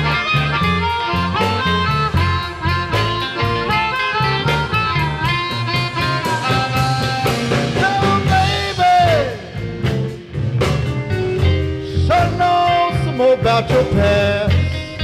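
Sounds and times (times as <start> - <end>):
blues harmonica: 0.0 - 15.0
drum kit: 0.0 - 15.0
electric guitar: 0.0 - 15.0
upright bass: 0.0 - 15.0.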